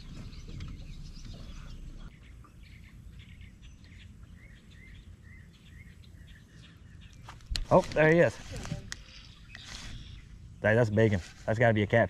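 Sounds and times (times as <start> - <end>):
small birds chirping: 0.0 - 11.1.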